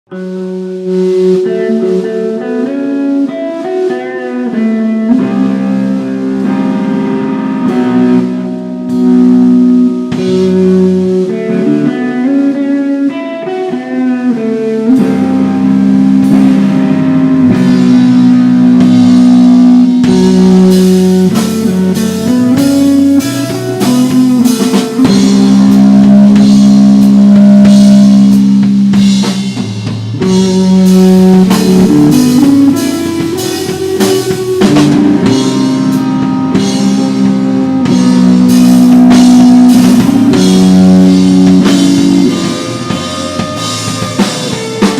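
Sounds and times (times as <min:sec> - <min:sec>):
drum kit: 0:00.1 - 0:44.9
guitar ringing notes: 0:00.1 - 0:44.9.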